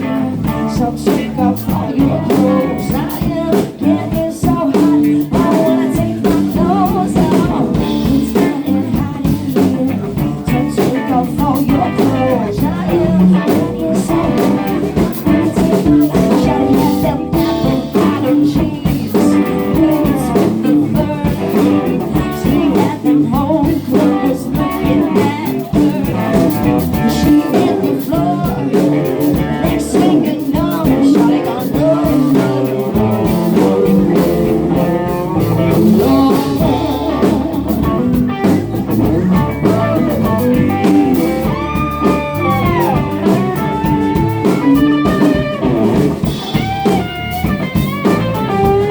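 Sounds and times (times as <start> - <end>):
blues-rock band playing: 0.0 - 48.9.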